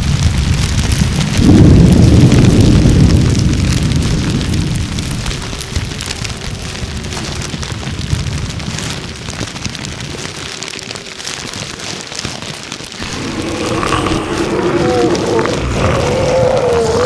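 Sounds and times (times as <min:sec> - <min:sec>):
low rumble: 0:00.0 - 0:10.8, 0:12.9 - 0:17.0
fire crackling: 0:00.0 - 0:17.0.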